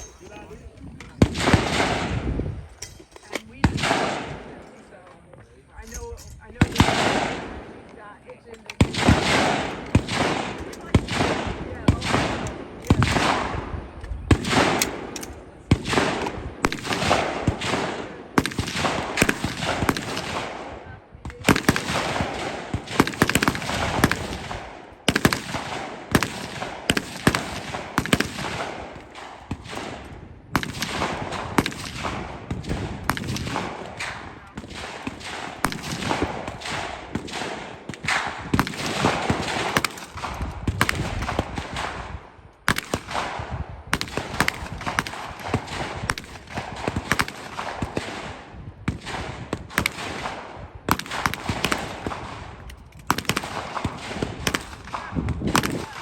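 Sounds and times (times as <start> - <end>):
gunshots echoing: 0.0 - 4.7, 5.8 - 56.0.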